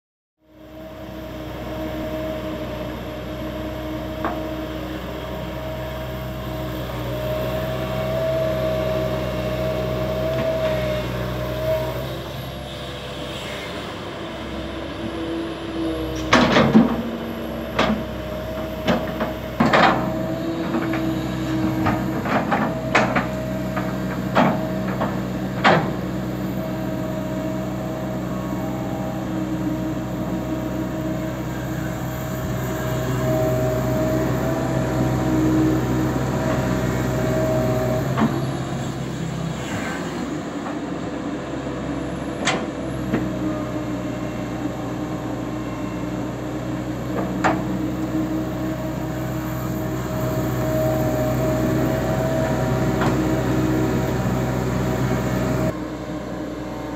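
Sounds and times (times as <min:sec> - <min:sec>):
excavator diesel engine running: 0:00.5 - 0:56.9.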